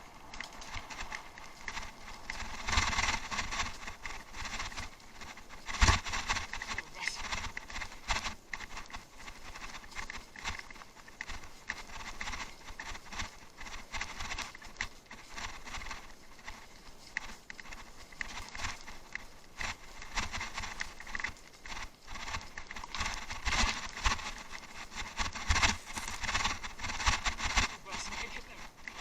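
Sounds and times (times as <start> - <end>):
bike rattling and knocking: 0.0 - 29.0
bike tyres crunching: 0.0 - 29.0.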